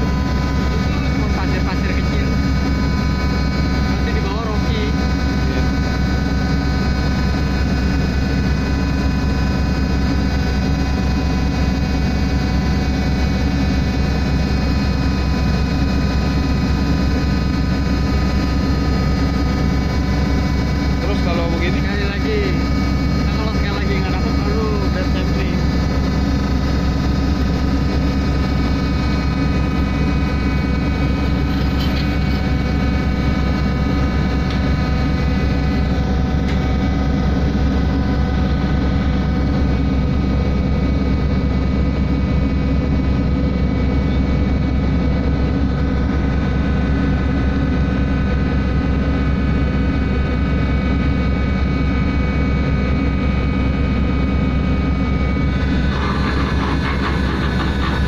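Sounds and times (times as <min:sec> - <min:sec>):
machinery high whine: 0:00.0 - 0:58.0
ship engine low drone: 0:00.0 - 0:58.0.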